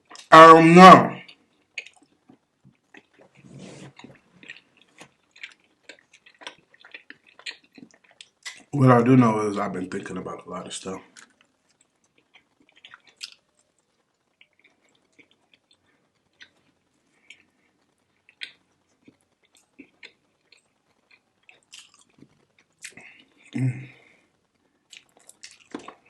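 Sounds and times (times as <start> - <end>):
close chewing: 1.2 - 8.8, 11.0 - 26.0.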